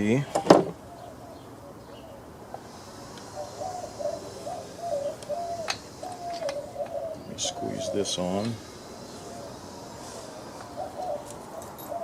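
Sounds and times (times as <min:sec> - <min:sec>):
dove cooing: 0:00.8 - 0:12.0.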